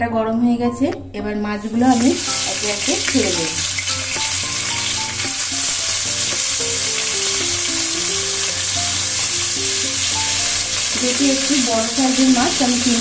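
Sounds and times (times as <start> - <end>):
soft background music: 0.0 - 13.0
fish frying in hot oil: 1.8 - 13.0.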